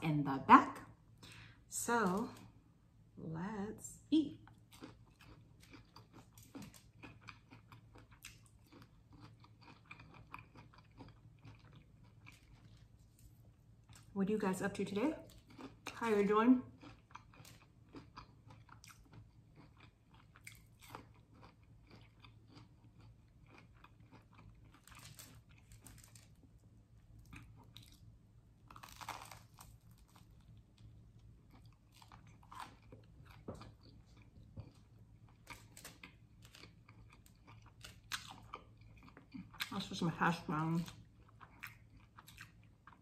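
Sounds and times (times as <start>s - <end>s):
chewing and crunching crispy food: 4.4s - 43.0s.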